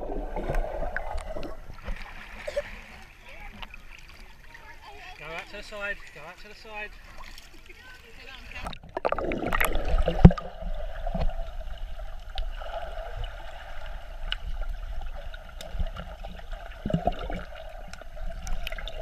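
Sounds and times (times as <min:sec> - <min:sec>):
underwater gurgling and sloshing: 0:00.0 - 0:19.0.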